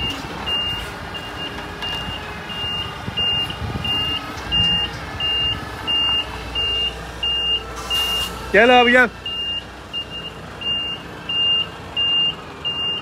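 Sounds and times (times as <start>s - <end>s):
diesel engine running: 0.0s - 13.0s
truck reversing alarm beeping: 0.0s - 13.0s.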